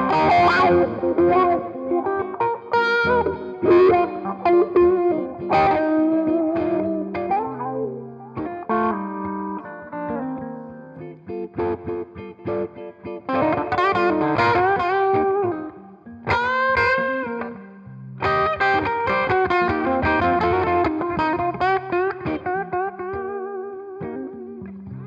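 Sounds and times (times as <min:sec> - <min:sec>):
electric guitar playing: 0:00.0 - 0:25.0.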